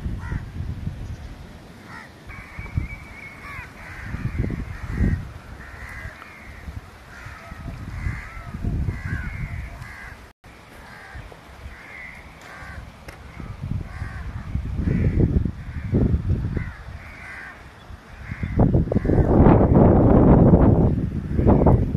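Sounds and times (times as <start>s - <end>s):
wind rumbling on microphone: 0.0s - 21.9s
birds making harsh calls: 1.0s - 19.8s.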